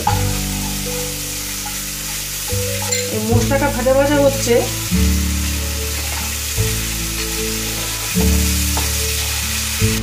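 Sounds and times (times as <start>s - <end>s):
background music sustained notes: 0.0s - 10.0s
spice paste sizzling in oil: 0.0s - 10.0s.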